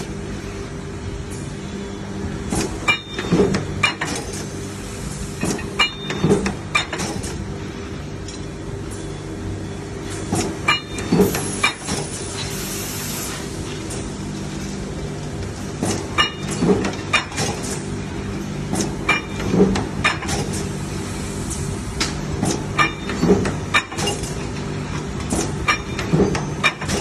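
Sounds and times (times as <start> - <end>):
forging press machine hum: 0.0 - 27.0.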